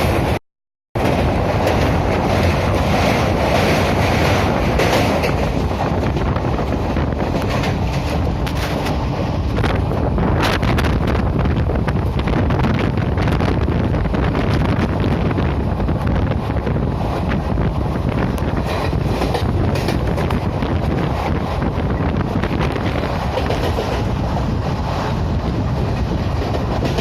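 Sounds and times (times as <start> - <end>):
train rumbling and rattling: 0.0 - 0.4, 1.0 - 27.0
wind buffeting microphone: 1.0 - 27.0.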